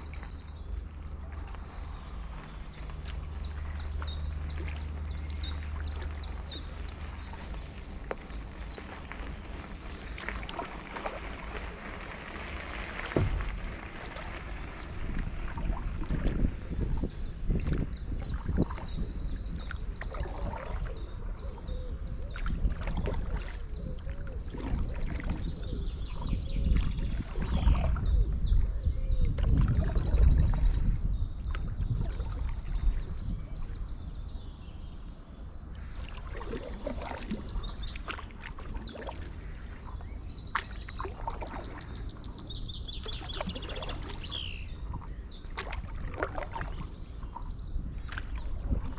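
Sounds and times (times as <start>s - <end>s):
low rumble: 0.0s - 48.9s
paddle strokes in water: 0.0s - 48.9s
small birds singing: 0.0s - 48.9s.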